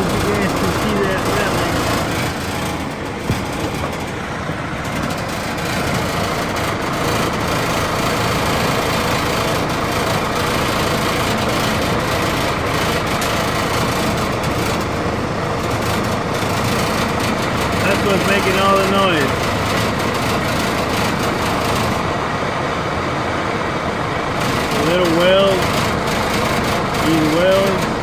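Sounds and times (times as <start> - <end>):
furnace running loudly: 0.0 - 28.0.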